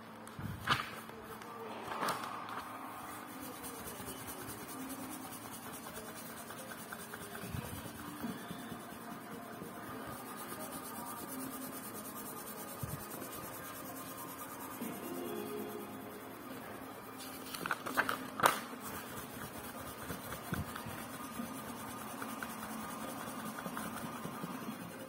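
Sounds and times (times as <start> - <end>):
fingers rubbing book pages: 0.2 - 25.0.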